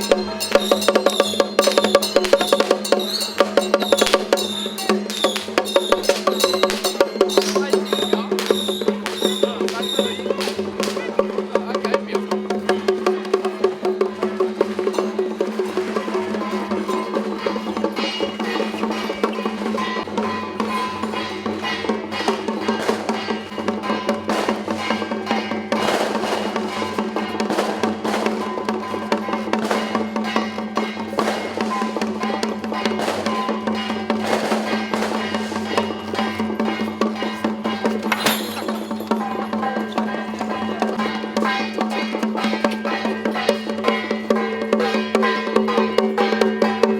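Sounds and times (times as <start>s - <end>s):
fast drum strikes: 0.0s - 46.9s.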